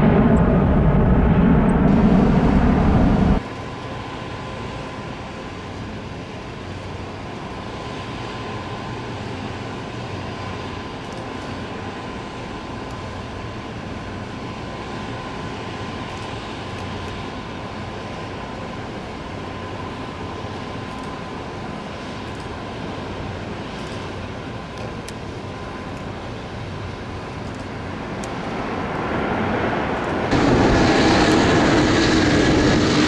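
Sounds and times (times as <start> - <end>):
jet engines roaring on takeoff: 0.0 - 33.0
jet noise on landing approach: 0.0 - 33.0.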